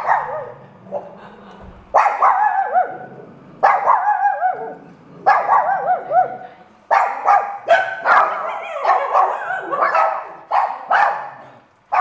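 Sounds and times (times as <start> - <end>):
dog yelp: 0.0 - 0.6, 2.0 - 12.0.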